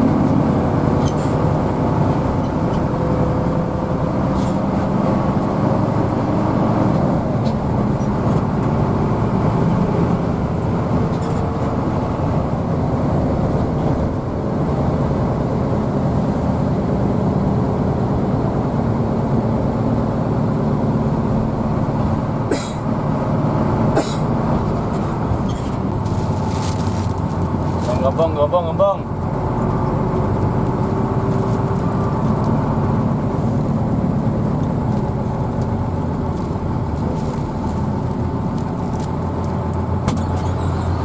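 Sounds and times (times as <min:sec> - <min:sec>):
bus engine drone: 0:00.0 - 0:41.0
road and tyre rumble: 0:00.0 - 0:41.0.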